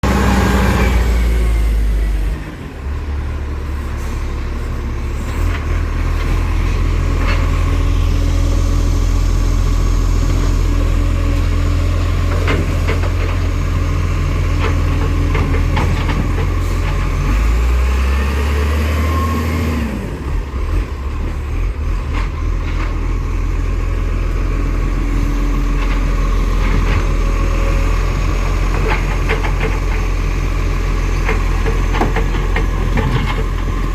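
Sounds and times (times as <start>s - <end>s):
garbage truck diesel engine: 0.0s - 33.9s.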